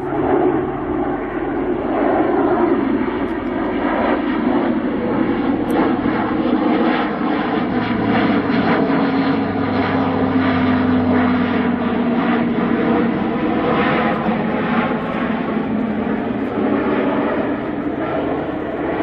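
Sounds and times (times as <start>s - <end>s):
deep aircraft drone: 0.0s - 19.0s
turboprop aircraft hum: 0.0s - 19.0s.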